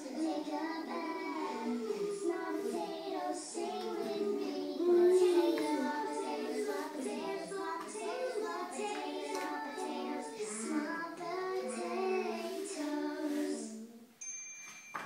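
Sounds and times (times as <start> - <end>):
children singing: 0.0 - 14.2.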